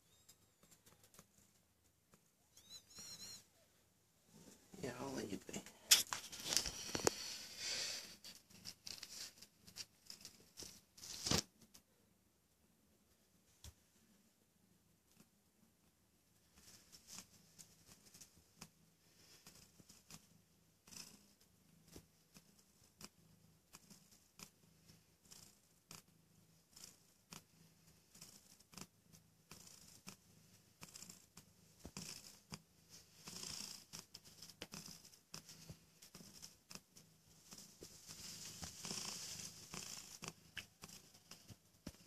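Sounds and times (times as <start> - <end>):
faint clicks and rustles: 0.0 - 3.4, 5.5 - 7.5, 8.1 - 11.9, 16.3 - 20.3, 20.9 - 42.0.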